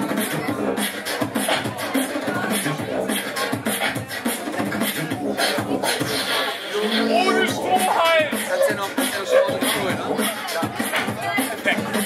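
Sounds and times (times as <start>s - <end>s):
person beatboxing into microphone: 0.0s - 12.0s.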